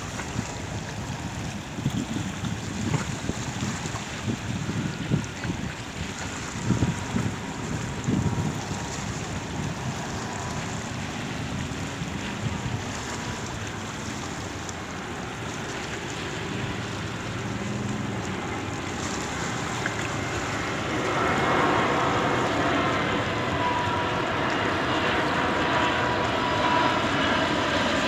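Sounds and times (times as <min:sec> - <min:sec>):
airliner jet engines: 0:00.0 - 0:28.0
small waves: 0:00.0 - 0:28.0
wind on microphone: 0:00.0 - 0:28.0.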